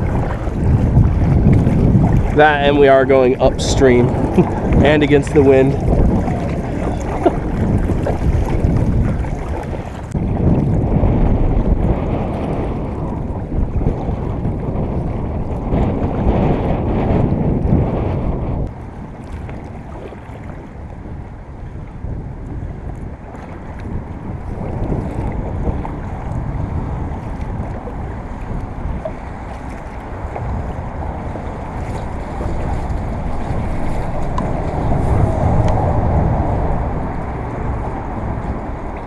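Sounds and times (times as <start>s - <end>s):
water sounds around kayak: 0.0s - 39.0s
wind rumbling on microphone: 0.0s - 39.0s.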